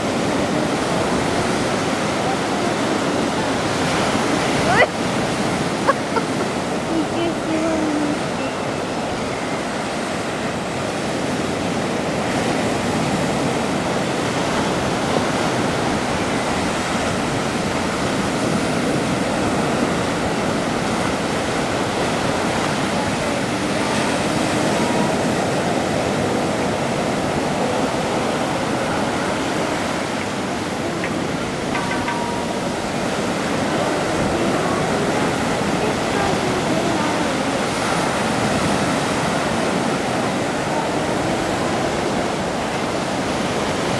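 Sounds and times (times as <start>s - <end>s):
waves breaking on shore: 0.0s - 43.9s.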